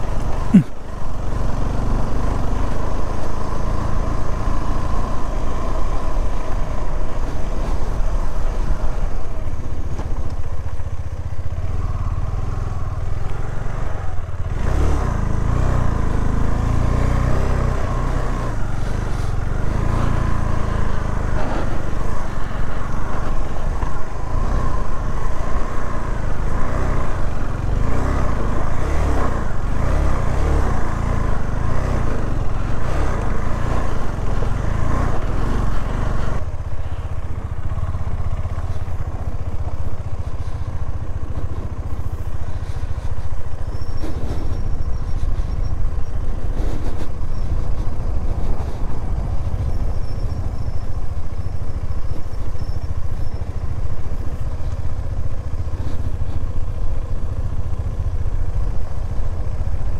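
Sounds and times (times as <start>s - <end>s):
motorcycle engine running: 0.0s - 59.9s
wind rumble on microphone: 1.2s - 59.9s.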